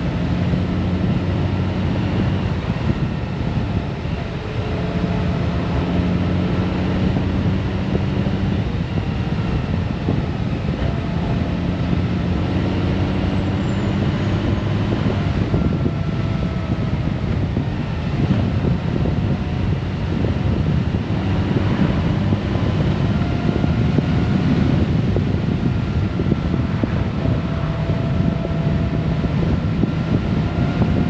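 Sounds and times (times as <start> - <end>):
motorcycle engine: 0.0 - 31.0
wind rush over microphone: 0.0 - 31.0.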